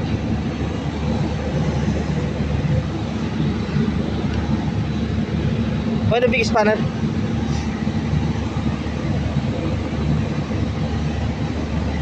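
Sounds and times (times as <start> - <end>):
machinery rumbling: 0.0 - 12.0.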